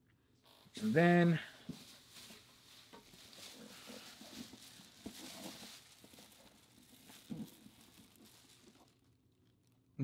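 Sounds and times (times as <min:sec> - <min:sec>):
faint rustling: 0:00.4 - 0:09.8.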